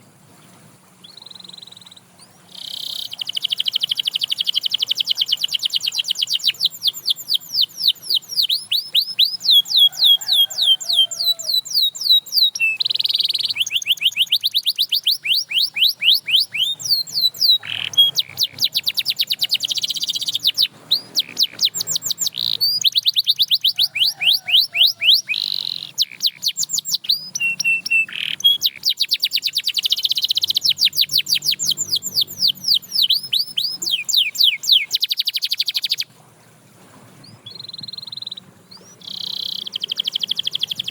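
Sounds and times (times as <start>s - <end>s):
canary singing trills: 1.0s - 36.1s, 37.2s - 40.9s.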